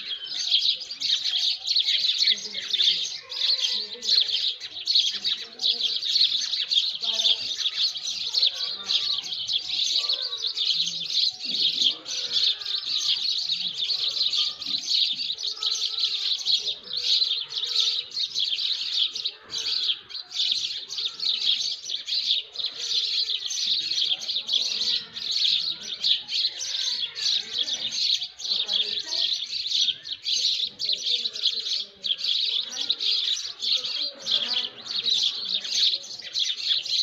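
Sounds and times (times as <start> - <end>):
birds chirping and twittering: 0.0 - 37.0.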